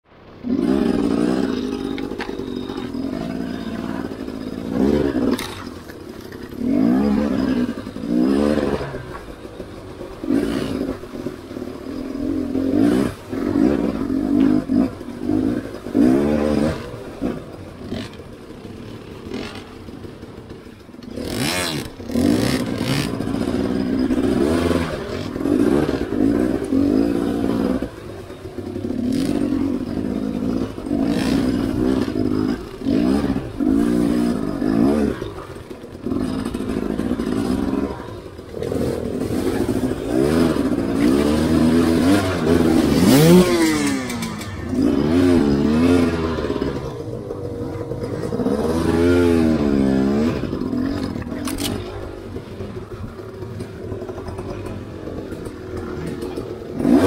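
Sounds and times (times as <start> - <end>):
dirt bike engine revving: 0.2 - 57.0.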